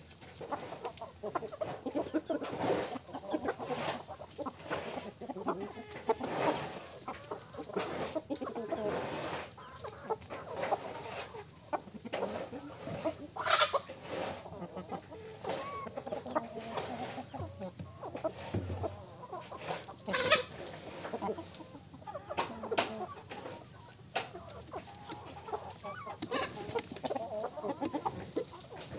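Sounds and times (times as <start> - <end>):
chickens clucking: 0.0 - 28.9.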